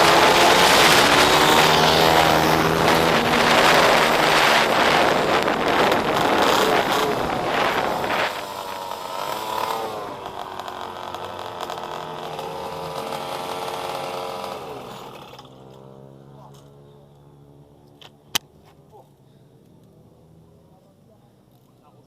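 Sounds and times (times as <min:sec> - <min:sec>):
motorbike engine revving: 0:00.0 - 0:17.7.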